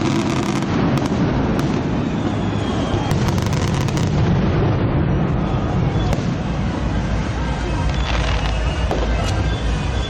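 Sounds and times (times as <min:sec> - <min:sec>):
fireworks booming: 0:00.0 - 0:10.0
fireworks popping and crackling: 0:00.0 - 0:10.0.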